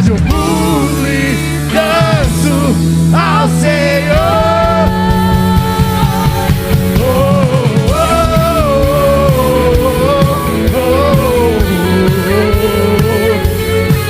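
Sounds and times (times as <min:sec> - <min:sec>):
rock band playing: 0:00.0 - 0:14.0
sliding held melody line: 0:00.0 - 0:14.0.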